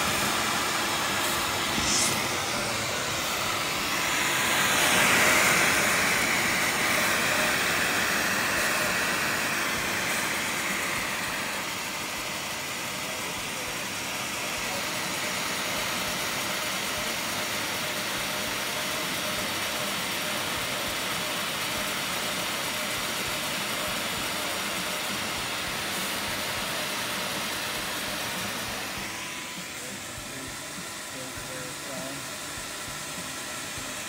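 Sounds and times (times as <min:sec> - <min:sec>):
cnc spindle cutting plastic: 0:00.0 - 0:34.0
vacuum running: 0:00.0 - 0:34.0.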